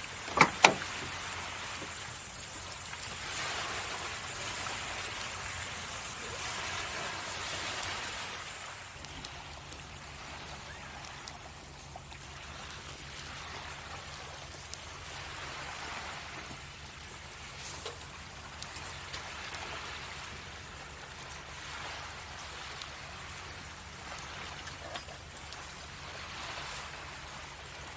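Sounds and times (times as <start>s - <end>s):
sea waves washing on shore: 0.0s - 27.9s.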